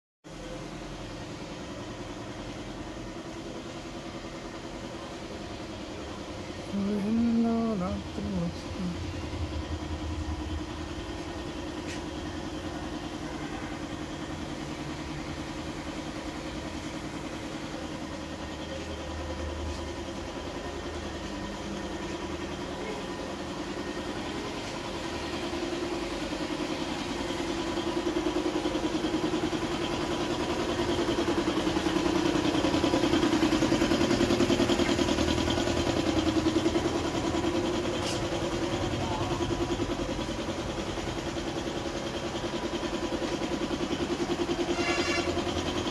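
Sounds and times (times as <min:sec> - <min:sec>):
engine running: 0:00.3 - 0:45.9.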